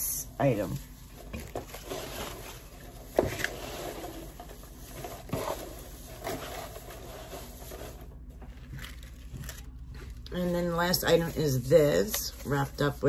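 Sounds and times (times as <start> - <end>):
paper crackles: 0.8 - 13.0
hand rustling shredded paper: 0.9 - 13.0.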